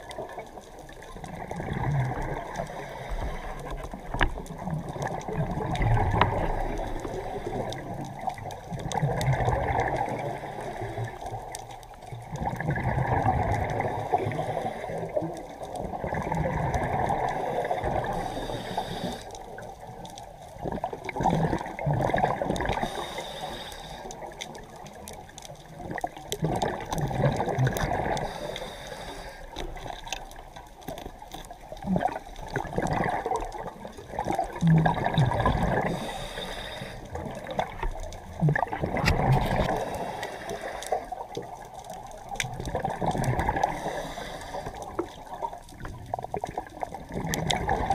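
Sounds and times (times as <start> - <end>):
underwater exhaled air bubbling: 0.0 - 47.9.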